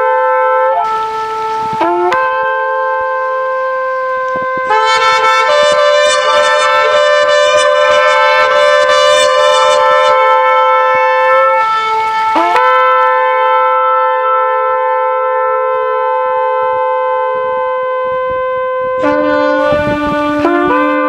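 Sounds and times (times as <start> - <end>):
ram's horns blowing long blasts: 0.0 - 21.0.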